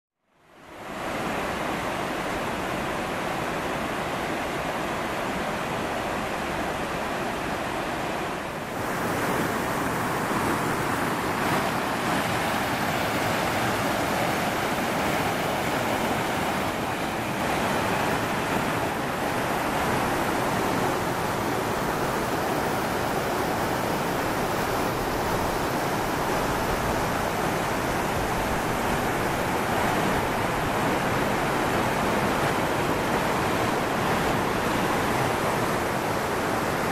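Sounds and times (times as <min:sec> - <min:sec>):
river water rushing over cascades: 0:00.4 - 0:36.9.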